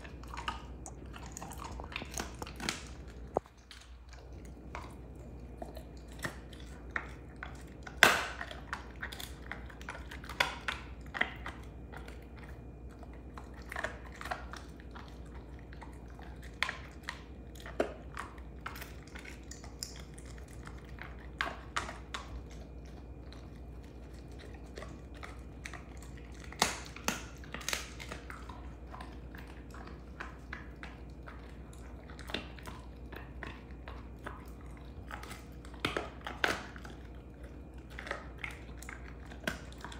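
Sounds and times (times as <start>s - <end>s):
dog chewing bone cracks: 0.0s - 39.9s.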